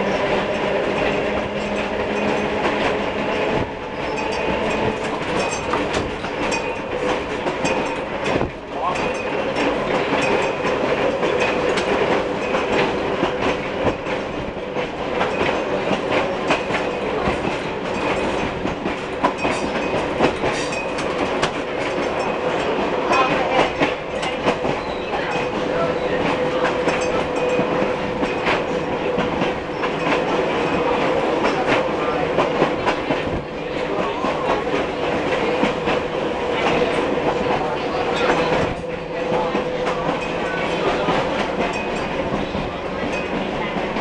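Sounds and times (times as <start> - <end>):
streetcar interior hum: 0.0 - 44.0
wheels clicking and rattling: 0.0 - 44.0.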